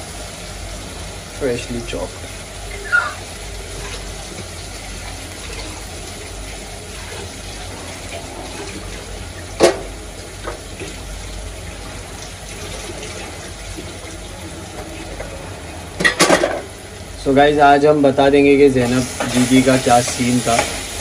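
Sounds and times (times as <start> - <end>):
onion and tomato sizzling in oil: 0.0 - 21.0.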